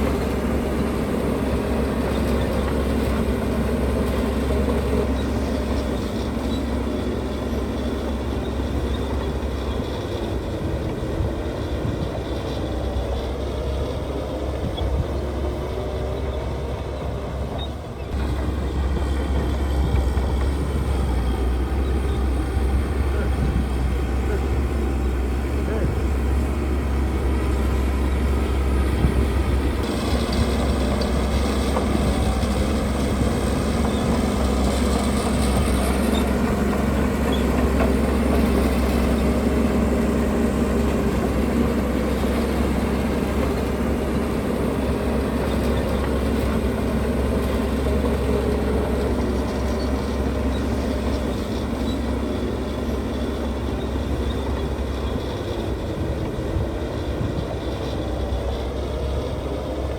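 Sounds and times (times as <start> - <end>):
diesel machinery engine rumbling: 0.0 - 59.9.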